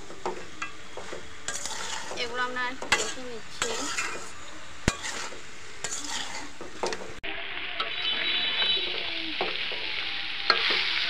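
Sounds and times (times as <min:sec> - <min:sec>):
frying sizzle: 0:00.0 - 0:11.0
spatula scraping wok: 0:00.0 - 0:11.0.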